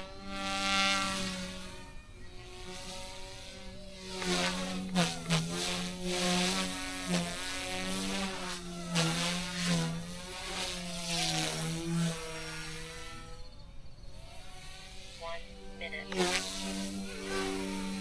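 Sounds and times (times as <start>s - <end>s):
toy helicopter buzzing: 0.0s - 18.0s.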